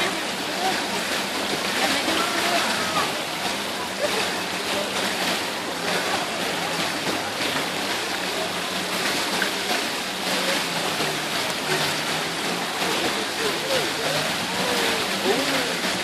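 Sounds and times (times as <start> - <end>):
faint voices of bathers: 0.0 - 16.0
pool water rushing: 0.0 - 16.0.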